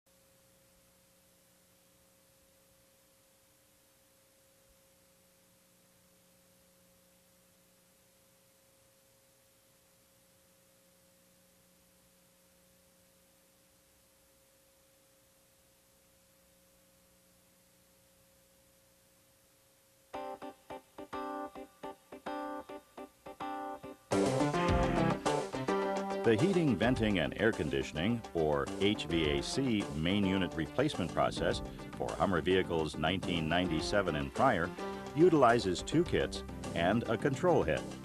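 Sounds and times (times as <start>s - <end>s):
tape hiss: 0.1s - 38.0s
thin constant hum: 0.1s - 38.0s.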